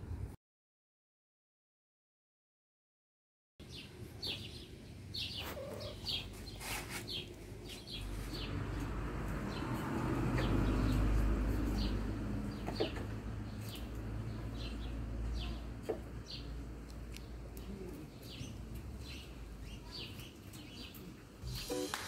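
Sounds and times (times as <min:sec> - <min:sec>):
small birds chirping: 0:03.6 - 0:22.0.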